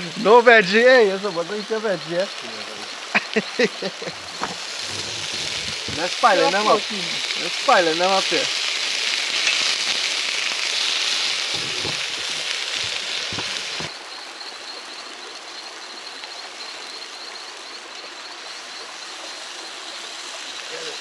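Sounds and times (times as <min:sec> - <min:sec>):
flowing water: 0:00.0 - 0:21.0
food sizzling in hot oil: 0:00.0 - 0:21.0.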